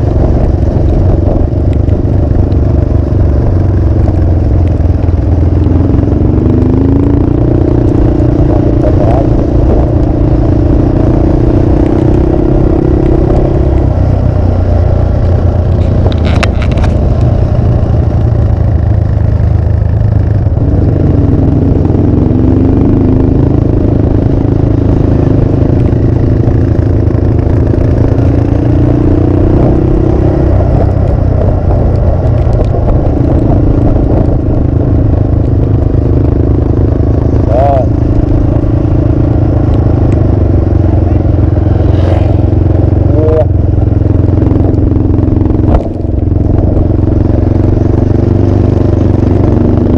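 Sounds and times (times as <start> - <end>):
motorcycle engine running: 0.0 - 49.9
wind rush on microphone: 0.0 - 49.9.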